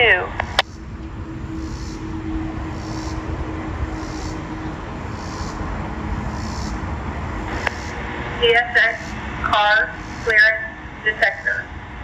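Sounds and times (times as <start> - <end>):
steady hum: 0.0 - 12.0
train rumbling: 0.0 - 12.0.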